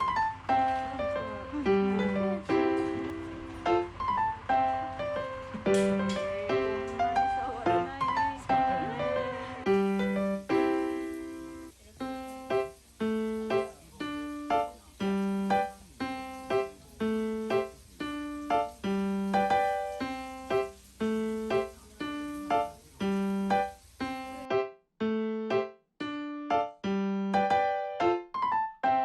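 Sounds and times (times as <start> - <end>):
simple piano tune: 0.0 - 29.0.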